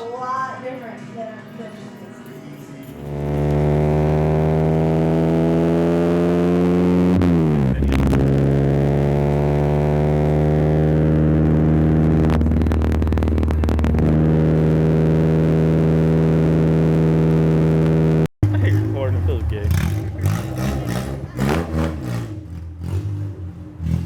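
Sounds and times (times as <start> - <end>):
car engine running: 3.0 - 24.0.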